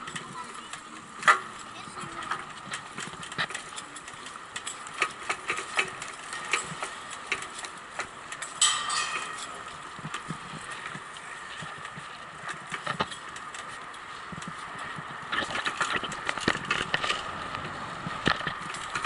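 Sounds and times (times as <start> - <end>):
bicycle rattling on pavement: 0.0 - 19.0.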